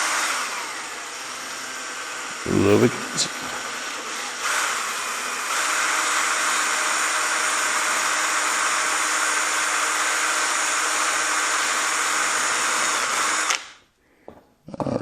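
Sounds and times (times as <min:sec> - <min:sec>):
power drill whirring: 0:00.0 - 0:02.4, 0:03.6 - 0:13.8.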